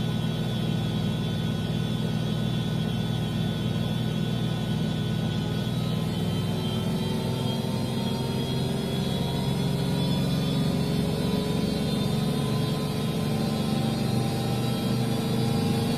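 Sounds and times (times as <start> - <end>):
washing machine running: 0.0 - 15.9.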